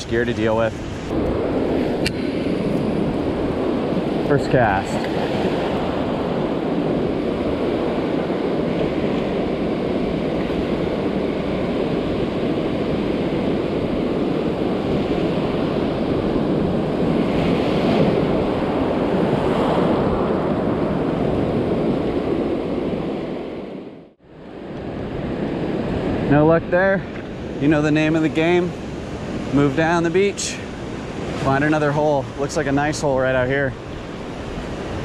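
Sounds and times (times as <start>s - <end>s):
ocean surf breaking: 0.0s - 35.0s
wind on microphone: 0.0s - 35.0s.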